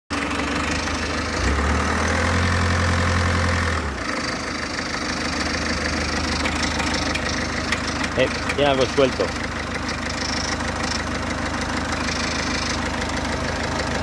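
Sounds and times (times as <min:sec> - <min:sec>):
diesel engine idling: 0:00.1 - 0:14.0.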